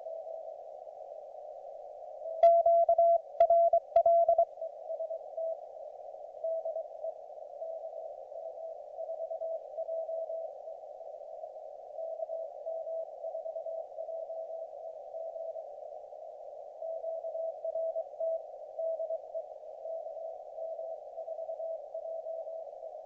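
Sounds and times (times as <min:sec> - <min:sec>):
receiver hiss: 0:00.0 - 0:23.0.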